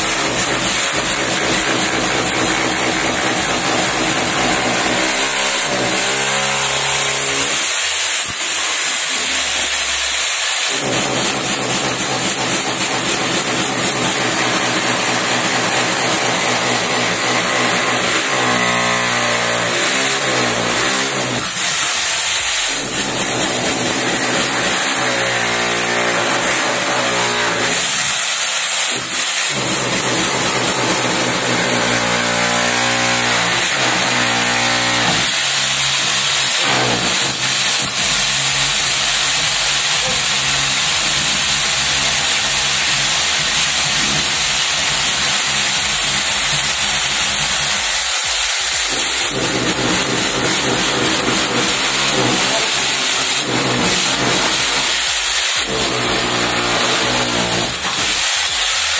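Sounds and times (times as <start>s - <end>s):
rotary hammer chiselling concrete: 0.0s - 58.9s.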